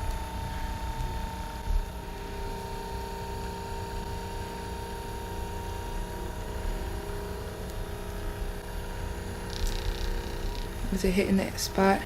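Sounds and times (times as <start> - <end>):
electric massager motor hum: 0.0 - 12.0.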